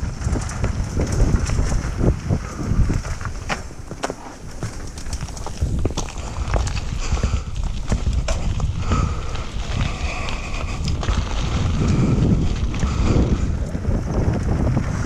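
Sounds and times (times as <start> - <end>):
mountain bike rattling over trail: 0.0 - 15.0
wind rumble on microphone: 0.0 - 15.0.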